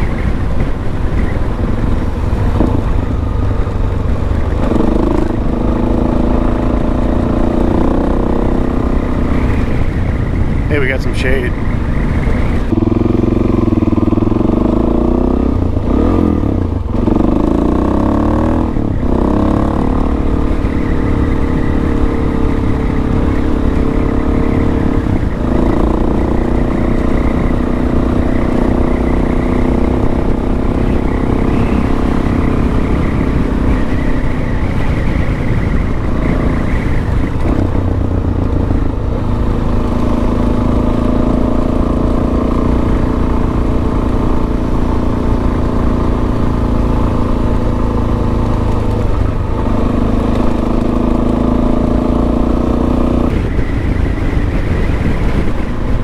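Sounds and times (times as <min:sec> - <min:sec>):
motorcycle engine shifting gears: 0:00.0 - 0:56.0.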